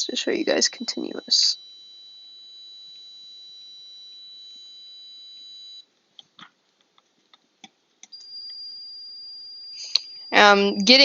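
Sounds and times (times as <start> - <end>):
electronic buzzer steady tone: 0.0 - 6.0, 8.1 - 11.0.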